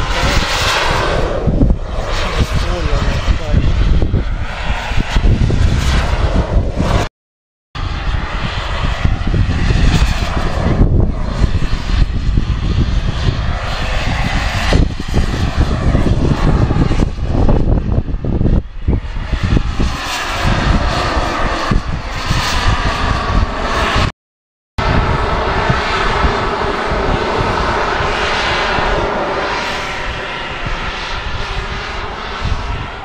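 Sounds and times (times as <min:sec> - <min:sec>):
low rumble: 0:00.0 - 0:07.1, 0:07.8 - 0:24.1, 0:24.8 - 0:33.0
model jet engine whine: 0:00.0 - 0:07.1, 0:07.8 - 0:24.1, 0:24.8 - 0:33.0.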